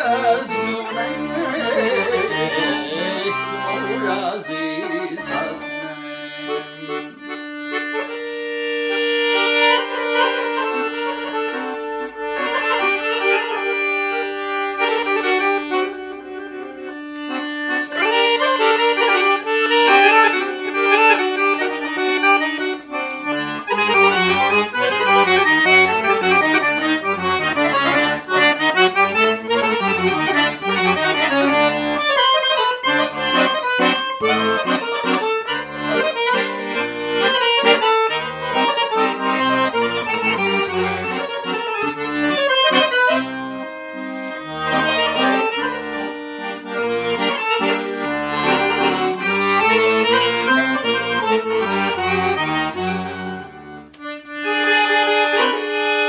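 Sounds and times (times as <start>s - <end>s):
solo accordion melody: 0.0s - 56.0s.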